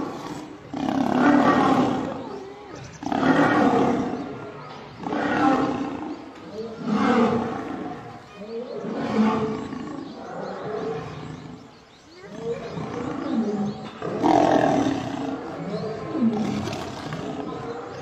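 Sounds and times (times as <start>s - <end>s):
lions growling and snarling: 0.0s - 18.0s.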